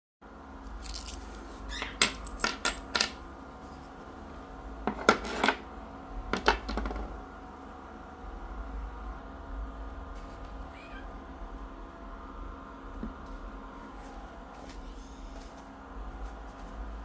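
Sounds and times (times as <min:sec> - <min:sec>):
steady low hum: 0:00.2 - 0:17.0.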